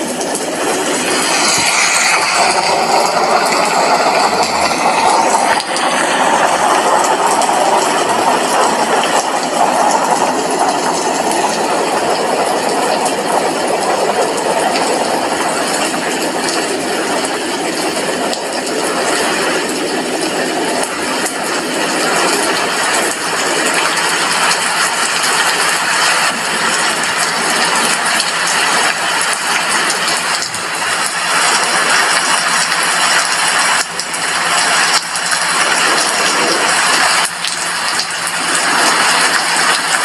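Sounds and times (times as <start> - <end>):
heavy rain on windowpane: 0.0 - 40.0.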